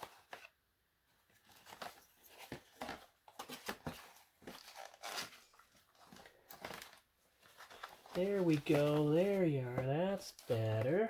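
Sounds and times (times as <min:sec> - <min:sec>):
paper rustling and crinkling: 0:01.2 - 0:11.0.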